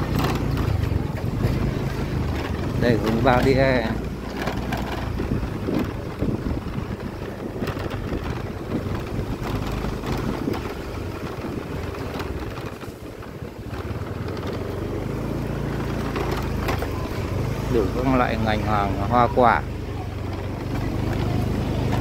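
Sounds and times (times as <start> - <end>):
wind buffeting microphone: 0.0 - 19.1.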